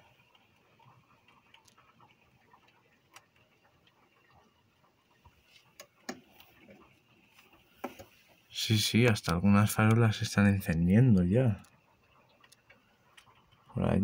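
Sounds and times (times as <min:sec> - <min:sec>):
faint ticks and clicks: 0:00.0 - 0:14.0.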